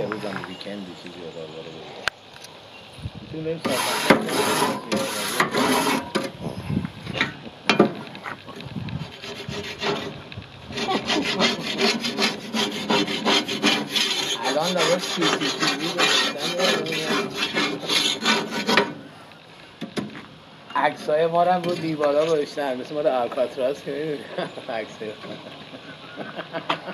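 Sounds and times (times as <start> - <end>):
scrubbing barbecue grill: 3.4 - 7.2, 7.8 - 19.2, 20.1 - 26.8.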